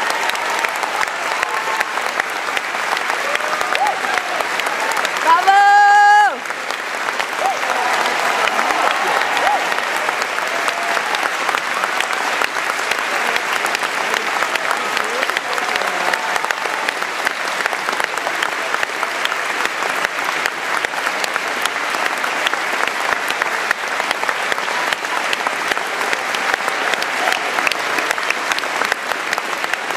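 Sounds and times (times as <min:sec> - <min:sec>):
audience applauding: 0:00.0 - 0:29.9.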